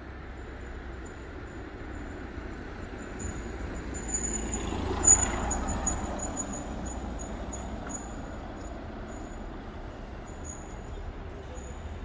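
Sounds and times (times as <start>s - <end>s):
road vehicle passing: 1.6s - 12.0s.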